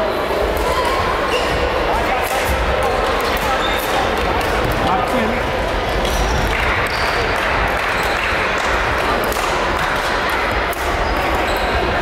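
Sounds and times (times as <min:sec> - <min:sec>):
many distant voices: 0:00.0 - 0:12.0.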